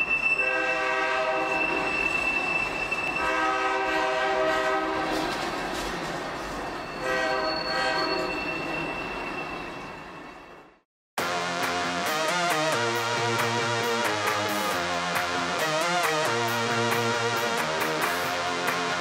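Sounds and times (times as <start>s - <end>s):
train running noise with whine: 0.0s - 19.0s.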